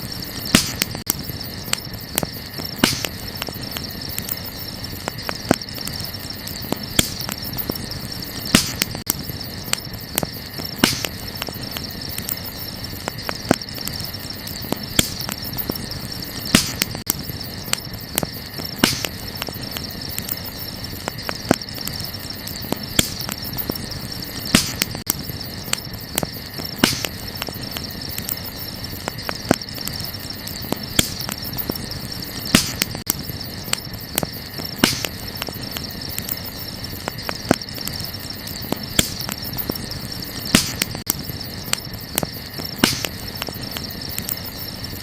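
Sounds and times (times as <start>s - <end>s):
burning wood crackling: 0.0s - 45.0s
crickets chirping: 0.0s - 45.0s.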